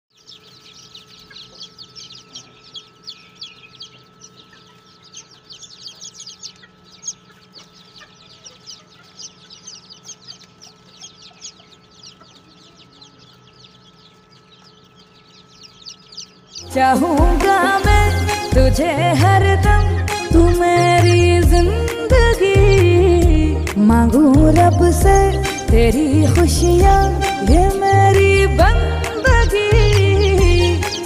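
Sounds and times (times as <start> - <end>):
chicks peeping: 0.1 - 31.0
faint steady hum: 0.2 - 31.0.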